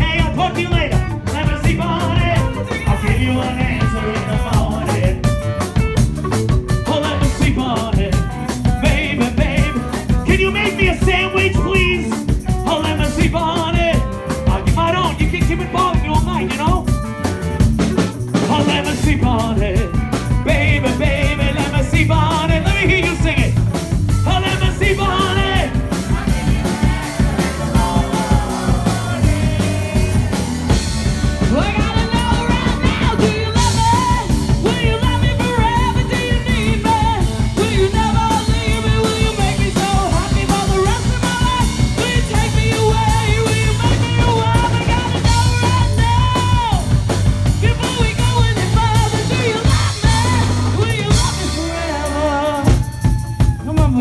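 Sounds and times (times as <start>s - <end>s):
person singing into a microphone: 0.0s - 5.7s, 6.8s - 16.8s, 18.4s - 23.5s, 24.2s - 47.0s, 47.6s - 54.0s
drum kit beat: 0.0s - 54.0s
electric bass guitar: 0.0s - 54.0s.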